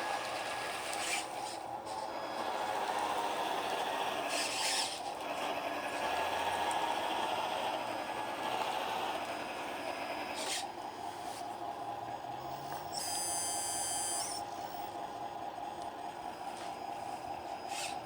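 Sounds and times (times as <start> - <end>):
electric hydraulic pump whine: 0.1 - 18.0.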